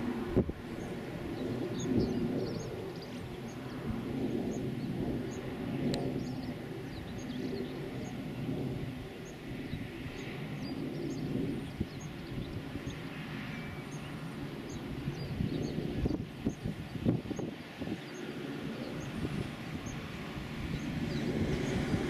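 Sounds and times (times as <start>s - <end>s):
distant jet engine rumble: 0.0s - 22.0s.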